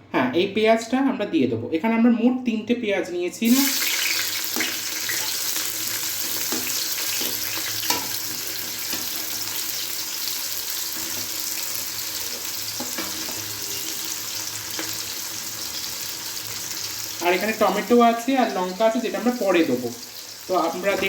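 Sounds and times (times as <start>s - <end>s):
onions sizzling in hot oil: 3.4s - 21.0s.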